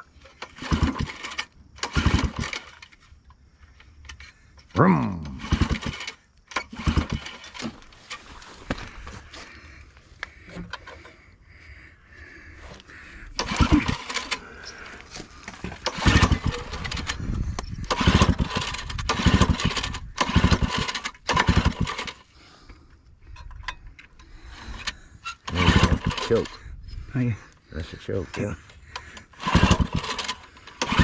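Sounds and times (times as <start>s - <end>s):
recoil starter pulls: 0.1s - 9.6s, 10.2s - 11.2s, 12.6s - 31.0s
engine compression chuffing: 0.3s - 3.0s, 5.0s - 11.2s, 12.0s - 22.7s, 24.2s - 31.0s.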